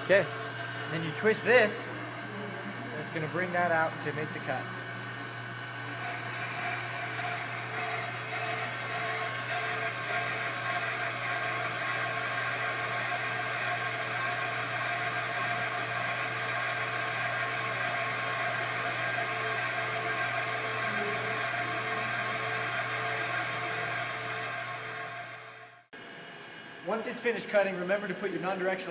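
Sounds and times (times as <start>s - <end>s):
brake lathe motor whine: 0.0s - 26.8s.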